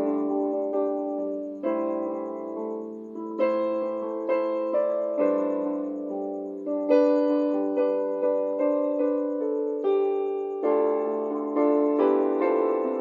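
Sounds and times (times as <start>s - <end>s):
slow keyboard chords: 0.0s - 13.0s.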